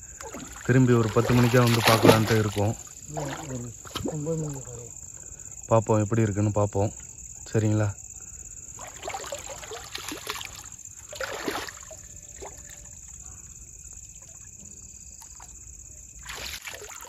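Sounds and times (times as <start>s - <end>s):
water splashing and trickling: 0.0s - 5.4s, 8.6s - 17.0s
crickets chirping: 0.0s - 17.0s.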